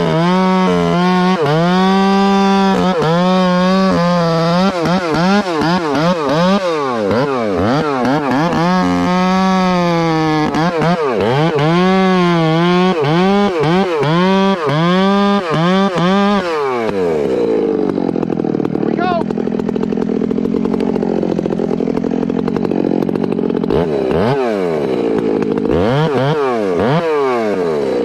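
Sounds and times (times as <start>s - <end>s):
chainsaw cutting log: 0.0s - 28.0s.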